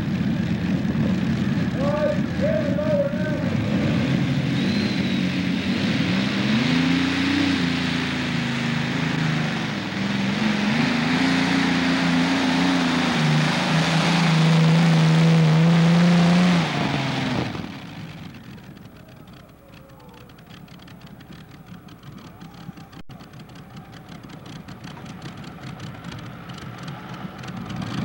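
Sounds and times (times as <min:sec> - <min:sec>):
pulling tractor engine at full power: 0:00.0 - 0:28.0.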